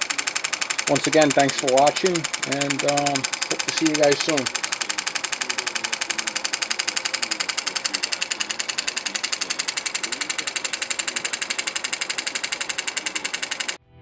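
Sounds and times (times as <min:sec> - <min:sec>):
model steam engine chuffing: 0:00.0 - 0:13.8.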